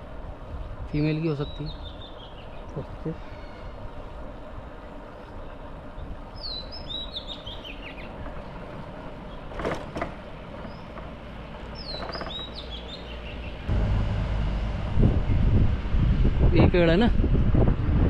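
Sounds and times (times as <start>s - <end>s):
low vehicle rumble: 1.7s - 18.0s.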